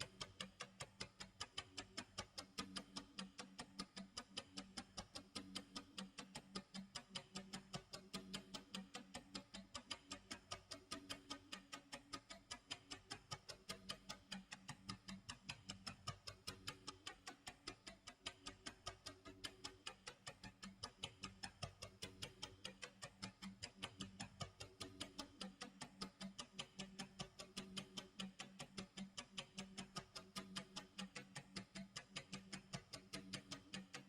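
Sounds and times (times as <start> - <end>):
rapid clock ticking: 0.0 - 34.0.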